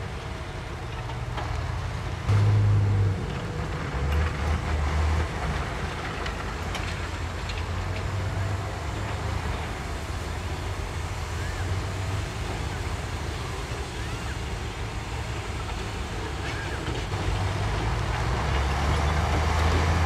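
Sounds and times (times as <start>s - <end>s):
diesel truck engines revving: 0.0s - 20.0s.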